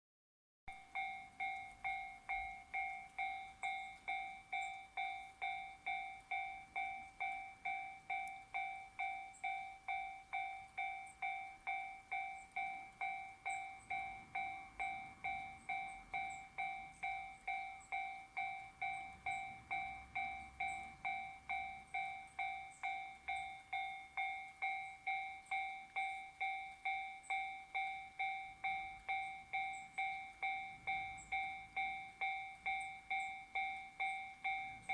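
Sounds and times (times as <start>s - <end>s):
level crossing alarm dinging: 0.7s - 34.9s.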